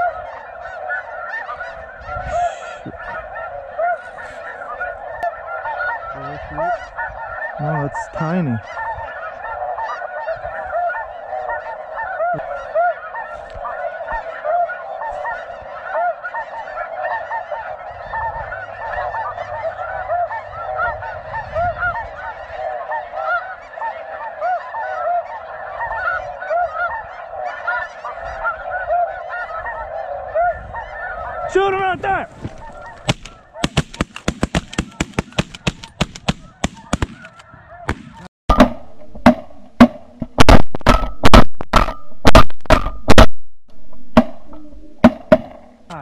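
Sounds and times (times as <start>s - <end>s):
geese honking: 0.0s - 43.3s, 44.2s - 46.0s.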